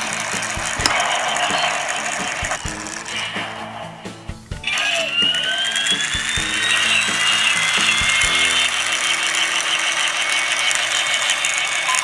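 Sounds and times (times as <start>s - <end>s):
toy helicopter whirring sound effect: 0.0s - 12.0s.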